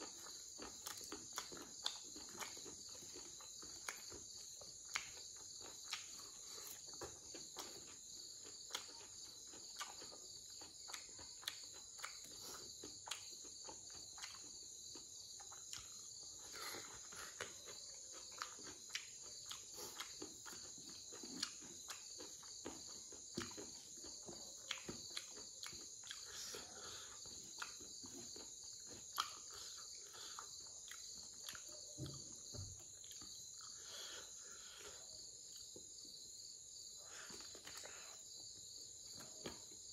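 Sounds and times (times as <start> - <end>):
night insects chirring: 0.0 - 39.9
wet chewing and lip-smacking: 0.0 - 39.9.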